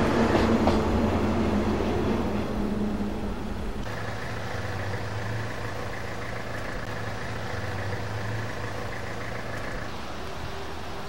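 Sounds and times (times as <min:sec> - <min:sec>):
idling engine hum: 0:00.8 - 0:11.0
constant high whine: 0:01.8 - 0:11.0.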